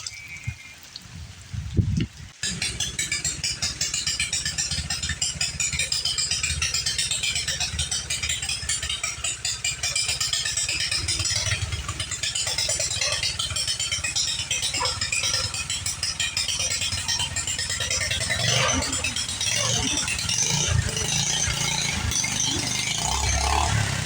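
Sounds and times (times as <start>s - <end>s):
tractor engine rattling: 0.0s - 24.0s.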